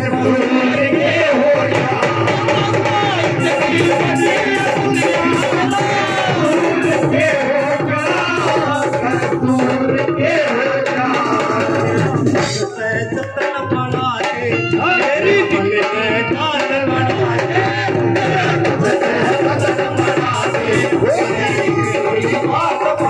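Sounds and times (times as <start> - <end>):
hand drums beating: 0.0 - 23.0
man singing through microphone: 0.0 - 23.0.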